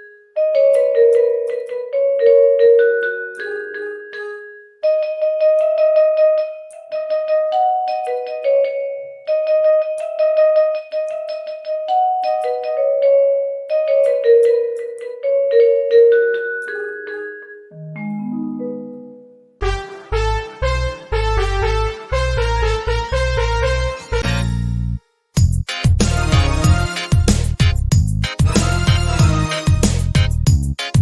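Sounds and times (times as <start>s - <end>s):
phone ringtone melody: 0.0s - 22.4s, 25.7s - 30.2s.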